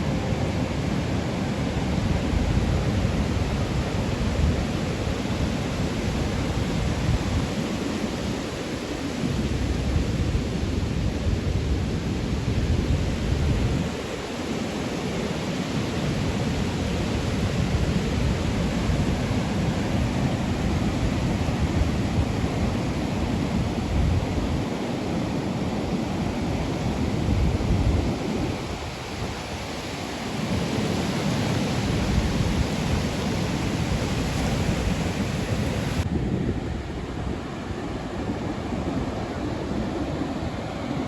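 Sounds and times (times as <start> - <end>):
sea rushing: 0.0 - 41.0
wind buffeting the microphone: 0.0 - 41.0.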